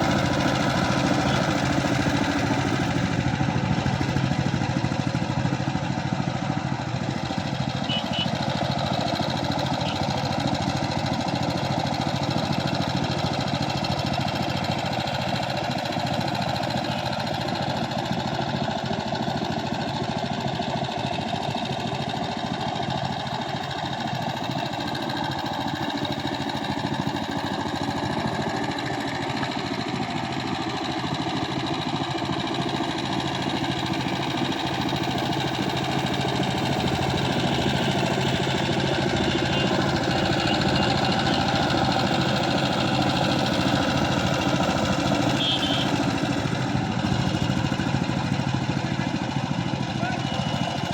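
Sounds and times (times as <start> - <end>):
power tiller engine running: 0.0 - 50.9.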